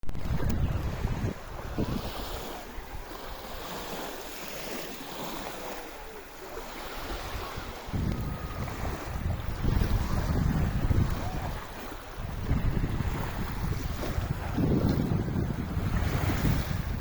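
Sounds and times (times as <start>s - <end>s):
wind buffeting microphone: 0.0s - 4.4s, 6.6s - 17.0s
sea waves washing in: 0.0s - 17.0s.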